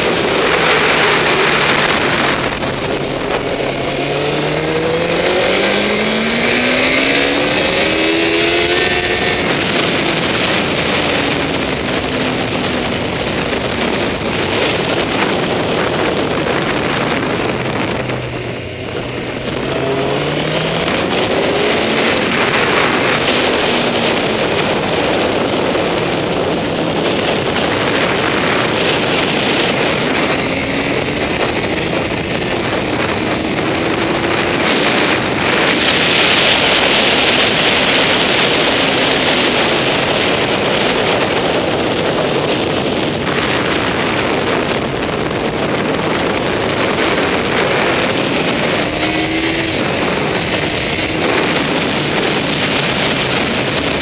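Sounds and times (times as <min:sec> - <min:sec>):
motorcycle engine at speed: 0:00.0 - 0:54.0
wind rush on microphone: 0:00.0 - 0:54.0.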